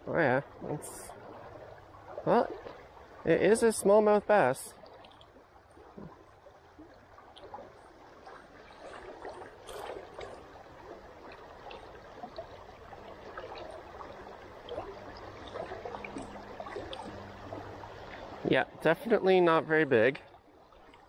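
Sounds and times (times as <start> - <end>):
shallow river rippling: 0.0 - 21.0.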